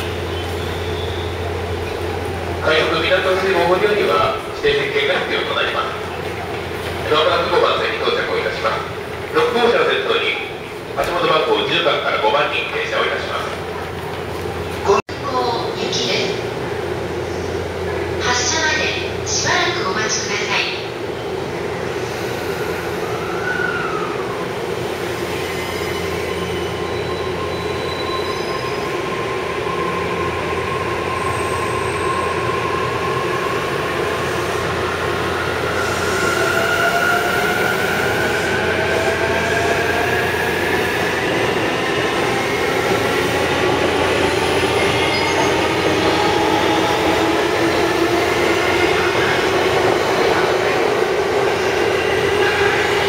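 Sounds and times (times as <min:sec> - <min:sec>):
electric train rumbling: 0:00.0 - 0:53.0.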